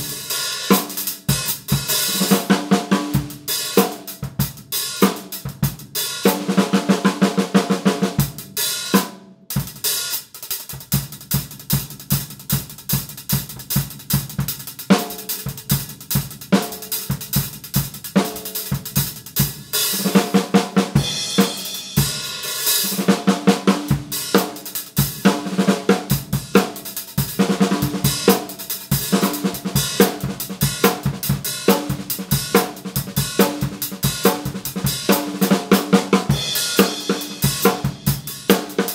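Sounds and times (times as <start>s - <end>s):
drum kit groove: 0.0s - 38.9s.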